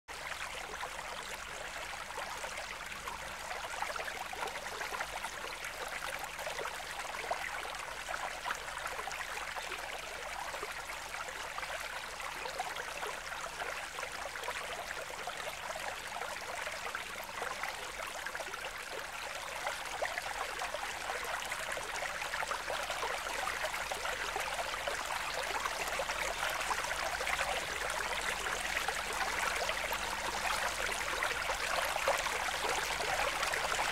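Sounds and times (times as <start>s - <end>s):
running water trickling and splashing: 0.2s - 33.9s.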